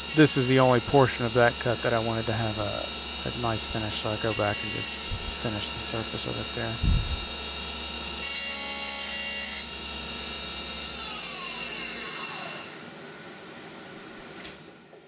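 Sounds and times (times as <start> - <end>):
milling machine spindle whine: 0.0 - 13.6
low machine hum: 0.0 - 15.0.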